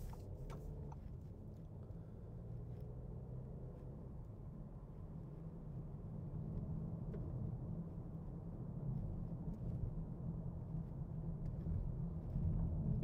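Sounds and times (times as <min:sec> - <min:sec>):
road and tyre rumble in car: 0:00.0 - 0:13.0.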